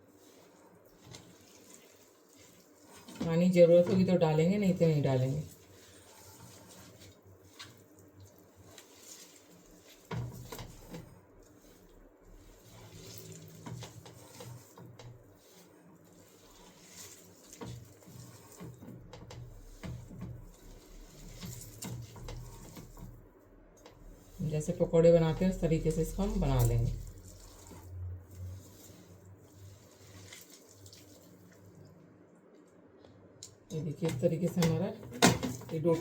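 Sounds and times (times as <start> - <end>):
wet squishing of kneaded dough: 0.0 - 36.0.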